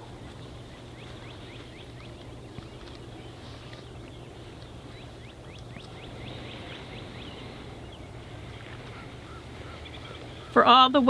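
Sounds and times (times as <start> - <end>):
bird chirping: 0.0 - 11.0
low outdoor rumble: 0.0 - 11.0.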